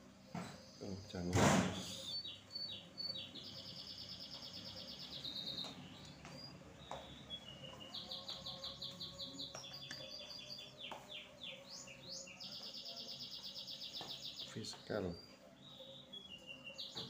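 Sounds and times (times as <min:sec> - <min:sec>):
songbird singing trills: 0:00.1 - 0:17.0.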